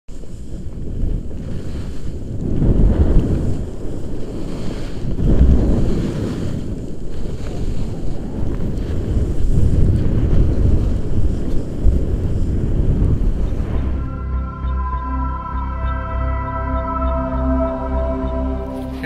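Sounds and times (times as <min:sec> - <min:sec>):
wind buffeting microphone: 0:00.1 - 0:15.8.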